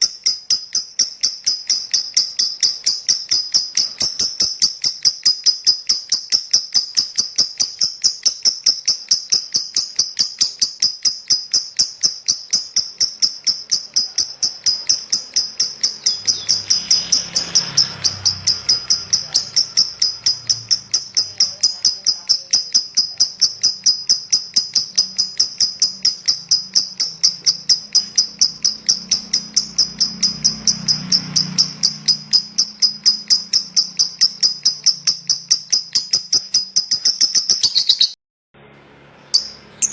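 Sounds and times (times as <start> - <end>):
lovebird chattering trill: 0.0 - 38.2, 39.3 - 39.9.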